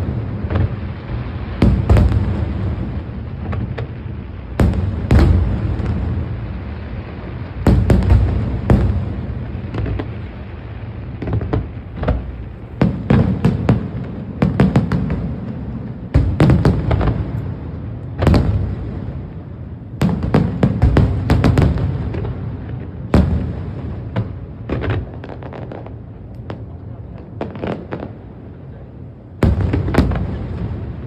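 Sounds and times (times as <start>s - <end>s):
fireworks bangs with rumbling echo: 0.0s - 31.0s.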